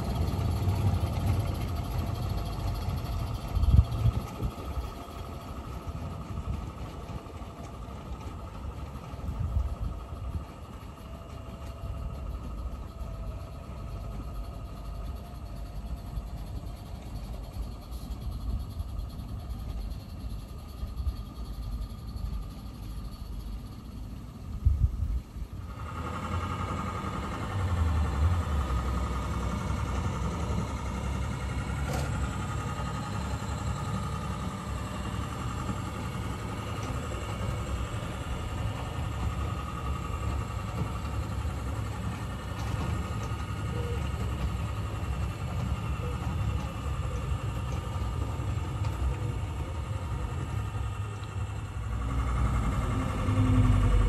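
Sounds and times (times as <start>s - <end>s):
model locomotive mechanical whine: 0.0s - 54.0s
wheels rumbling on track: 0.0s - 54.0s.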